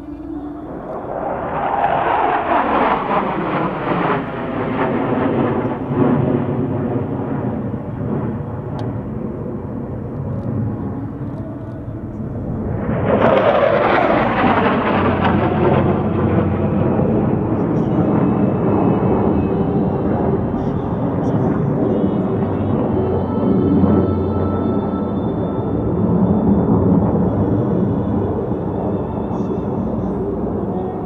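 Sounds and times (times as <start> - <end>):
fighter jets flying overhead: 0.0 - 31.0.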